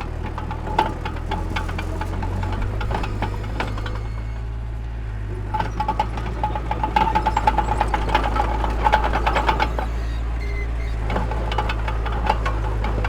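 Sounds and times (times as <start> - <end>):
metallic clanking and rattling: 0.0 - 4.6, 5.2 - 13.0
diesel machinery droning: 0.0 - 13.0.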